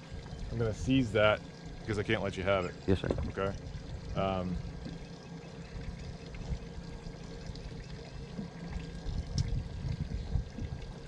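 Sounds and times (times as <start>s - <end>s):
water lapping against boat hulls: 0.0s - 11.0s.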